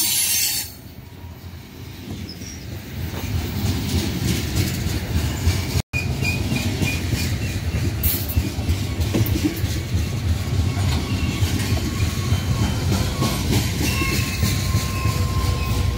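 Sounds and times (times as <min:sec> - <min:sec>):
freight train rumbling past: 0:00.0 - 0:15.9.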